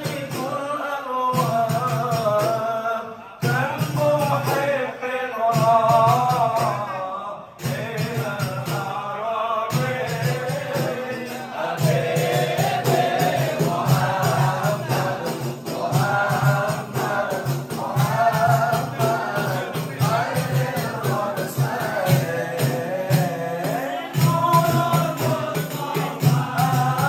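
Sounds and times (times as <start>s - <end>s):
hand frame drums beat: 0.0s - 7.0s, 7.6s - 9.1s, 9.7s - 27.0s
group of men singing: 0.0s - 27.0s.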